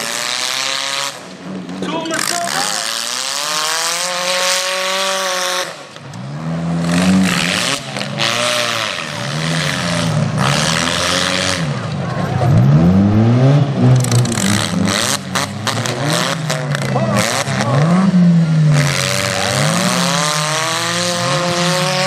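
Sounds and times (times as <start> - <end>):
wheels spinning on dirt: 0.0 - 13.0, 13.6 - 22.0
car engines revving: 0.0 - 22.0.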